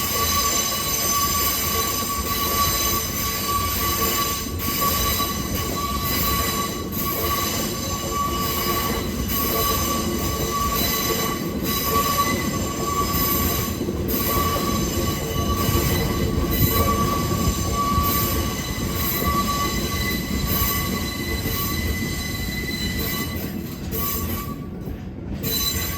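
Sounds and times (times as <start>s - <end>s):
train low rumble: 0.0s - 25.9s
train wheels squealing: 0.0s - 25.9s.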